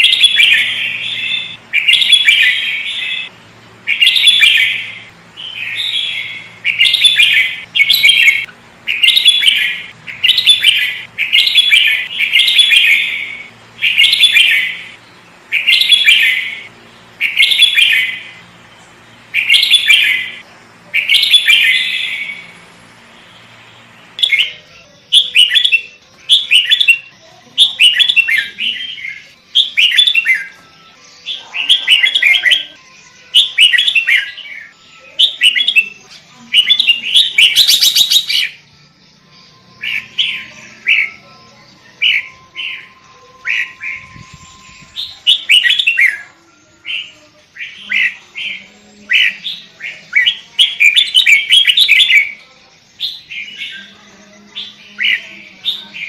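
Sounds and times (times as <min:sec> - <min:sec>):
bulbul singing whistled phrases: 0:00.0 - 0:56.0.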